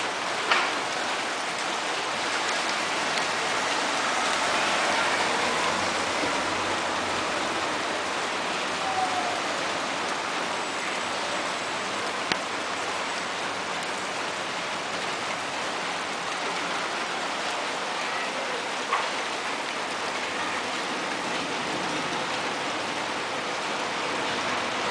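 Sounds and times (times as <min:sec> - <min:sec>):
rain hitting surfaces: 0:00.0 - 0:24.9.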